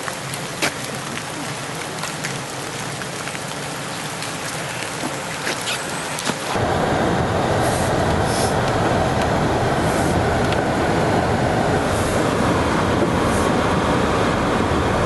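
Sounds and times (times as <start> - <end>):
tyres and engine rumbling: 0.0 - 15.0.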